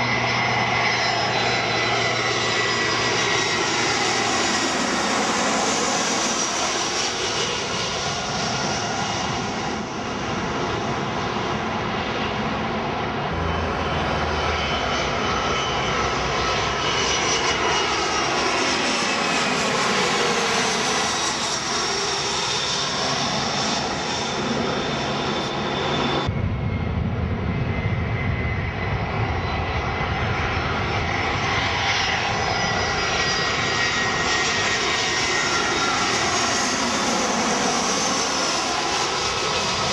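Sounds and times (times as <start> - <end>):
jet airliners passing overhead: 0.0 - 39.9.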